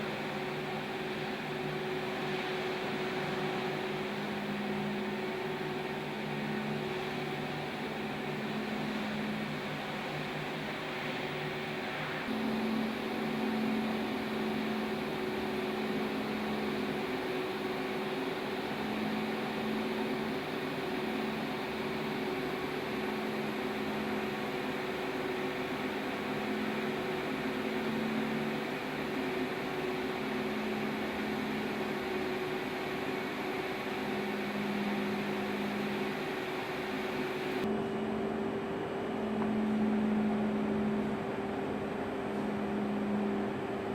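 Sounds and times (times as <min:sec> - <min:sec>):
boiler machinery hiss: 0:00.0 - 0:37.7
two-tone hum: 0:00.0 - 0:43.9.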